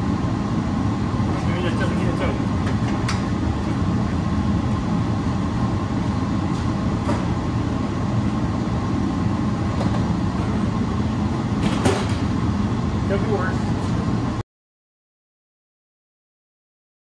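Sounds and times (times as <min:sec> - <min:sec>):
low rumbling machine noise: 0:00.0 - 0:14.4.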